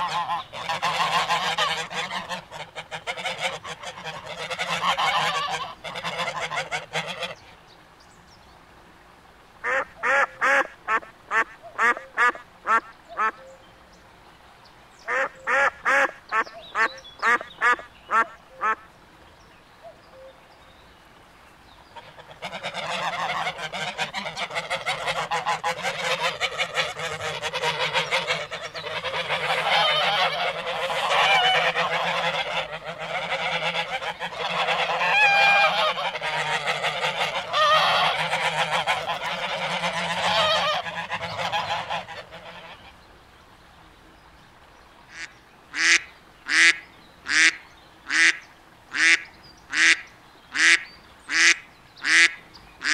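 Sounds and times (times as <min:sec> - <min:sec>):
duck quacking: 0:00.0 - 0:07.4, 0:09.6 - 0:13.4, 0:15.1 - 0:18.9, 0:22.0 - 0:42.9, 0:45.1 - 0:52.9
waterfowl honking and calling: 0:00.0 - 0:07.6, 0:09.6 - 0:13.6, 0:15.0 - 0:18.9, 0:21.9 - 0:43.1, 0:45.1 - 0:52.9.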